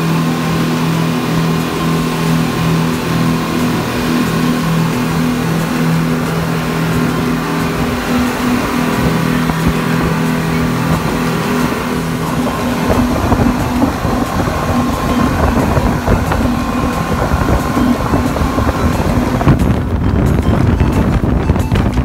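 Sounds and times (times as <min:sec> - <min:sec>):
speedboat engine drone: 0:00.0 - 0:22.0
water rushing: 0:00.0 - 0:22.0
wind buffeting microphone: 0:00.0 - 0:22.0.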